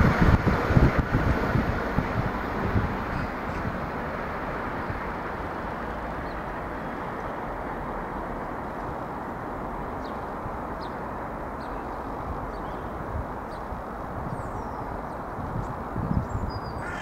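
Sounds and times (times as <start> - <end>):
diesel train rumbling along track: 0.0 - 17.0.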